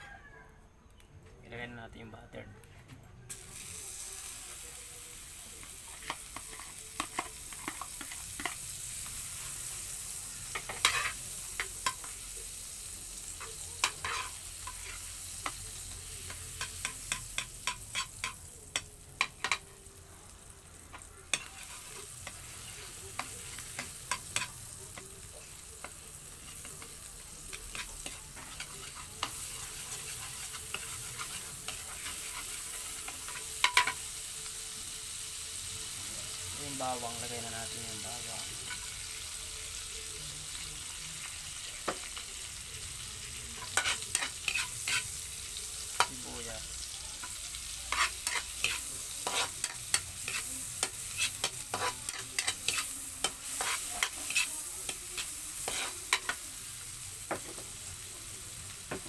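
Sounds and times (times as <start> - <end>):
butter sizzling in wok: 3.2 - 59.0.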